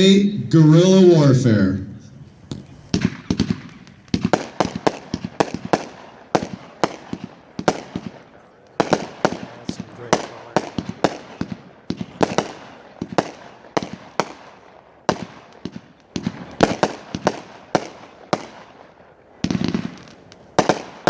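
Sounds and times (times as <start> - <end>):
fireworks reports with crackle: 0.0 - 21.0.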